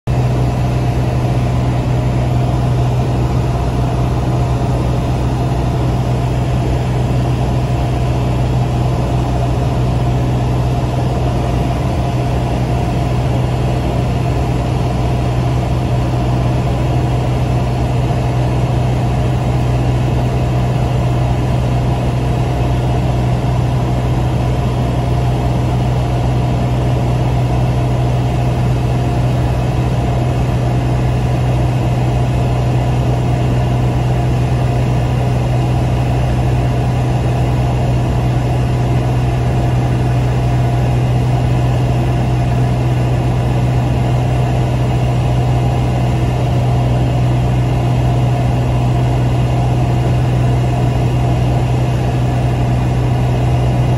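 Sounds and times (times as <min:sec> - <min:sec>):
light aircraft engine droning: 0:00.1 - 0:53.9.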